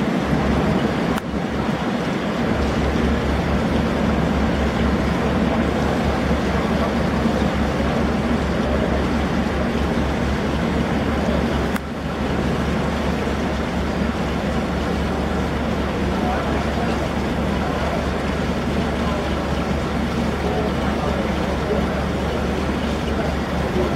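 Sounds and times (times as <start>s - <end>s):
boat diesel engine pulsing: 0.0s - 23.9s
water noise: 0.0s - 23.9s
wind: 0.0s - 23.9s.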